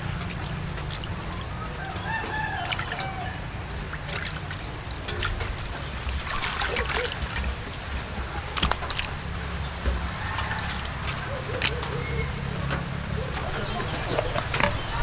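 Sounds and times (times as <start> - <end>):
water splashing in a steel bowl: 0.0 - 12.6.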